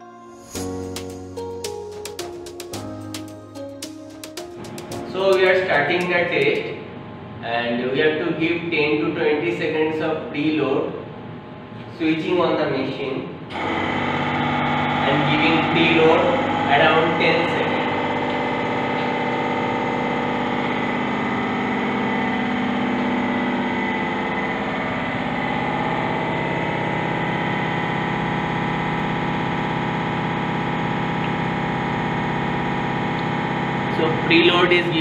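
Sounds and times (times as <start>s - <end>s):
hydraulic power unit humming: 0.6s - 8.7s, 13.3s - 35.0s.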